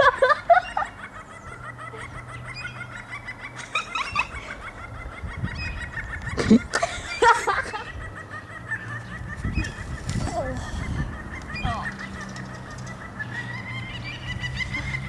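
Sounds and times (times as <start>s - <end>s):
gull laughing calls: 0.0s - 15.0s.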